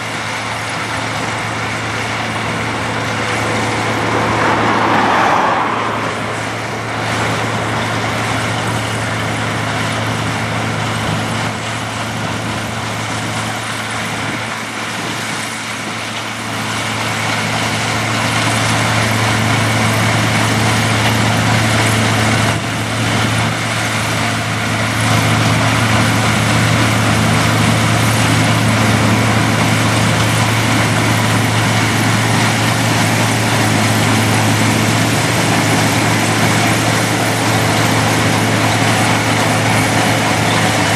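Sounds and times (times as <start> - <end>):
harvester engine drone: 0.0 - 40.9.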